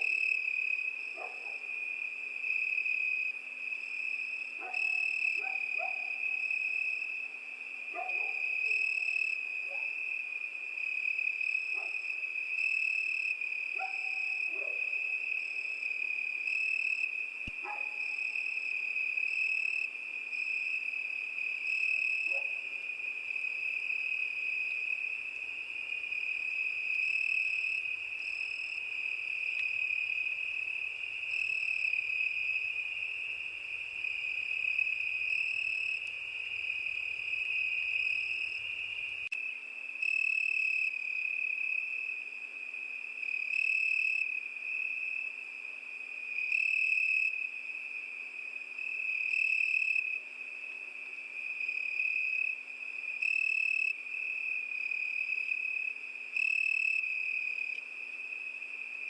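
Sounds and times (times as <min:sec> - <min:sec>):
crickets trilling: 0:00.0 - 0:59.0
higher cricket chirping: 0:00.0 - 0:59.0.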